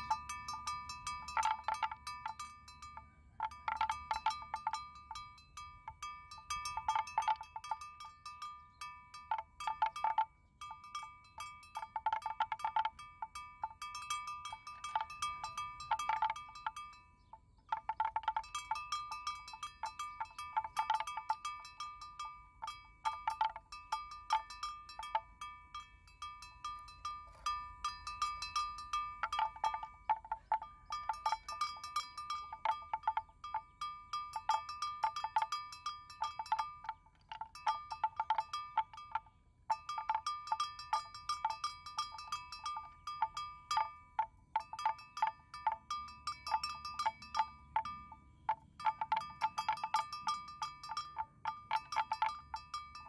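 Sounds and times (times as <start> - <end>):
metal livestock bells clanking: 0.0 - 53.0.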